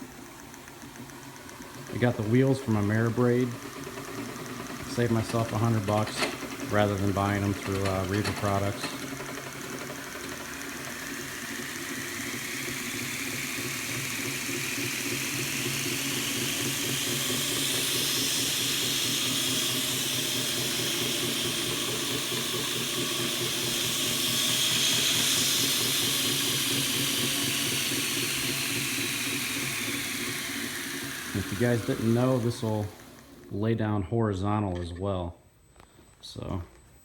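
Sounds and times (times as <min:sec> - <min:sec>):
belt grinder whine: 0:00.0 - 0:34.0.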